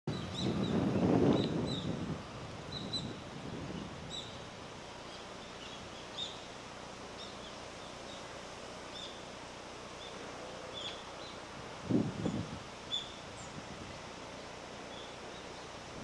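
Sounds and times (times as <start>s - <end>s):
faint outdoor background noise: 0.1s - 16.0s.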